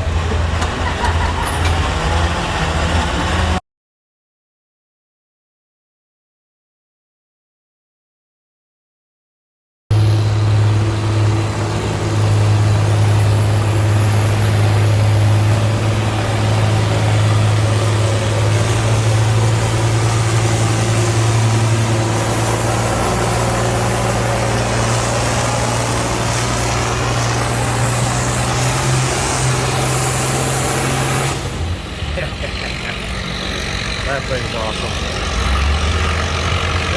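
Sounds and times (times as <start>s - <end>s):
tractor engine running: 0.0s - 3.6s, 9.9s - 36.9s.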